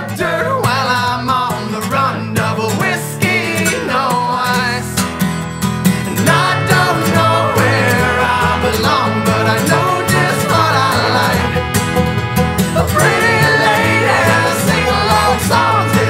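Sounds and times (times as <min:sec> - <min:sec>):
country song with acoustic guitar: 0:00.0 - 0:16.0.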